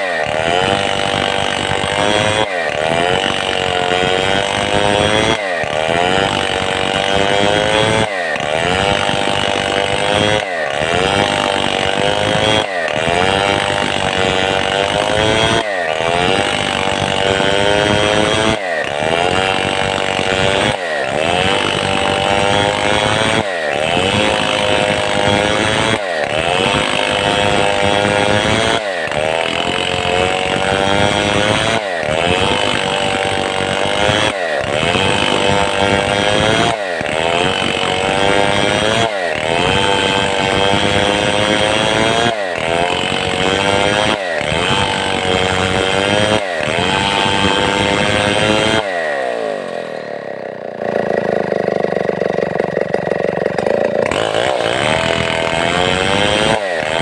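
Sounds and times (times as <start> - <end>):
chainsaw cutting under load: 0.0 - 57.0.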